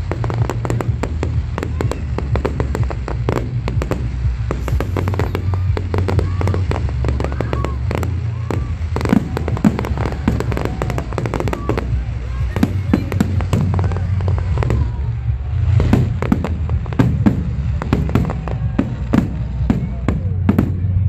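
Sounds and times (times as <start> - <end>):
fireworks bangs and crackling: 0.0 - 21.0
low rumble: 0.0 - 21.0.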